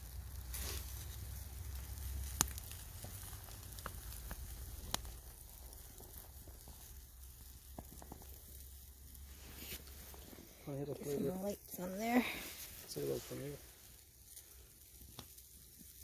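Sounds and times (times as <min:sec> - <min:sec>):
campfire crackling and popping: 0:00.0 - 0:16.0
faint sizzle: 0:00.0 - 0:16.0.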